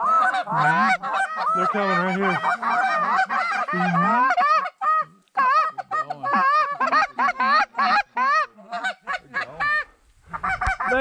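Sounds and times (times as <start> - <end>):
goose calls honking: 0.0 - 11.0.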